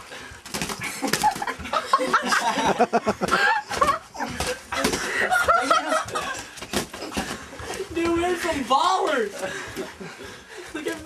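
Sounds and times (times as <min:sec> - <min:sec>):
boys laughing and hollering: 0:00.9 - 0:11.0.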